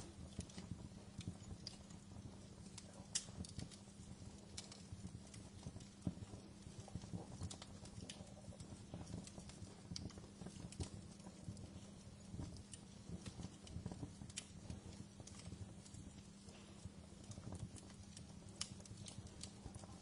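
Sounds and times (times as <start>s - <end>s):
fire flames rumbling: 0.0s - 20.0s
wood fire crackles and pops: 0.0s - 20.0s.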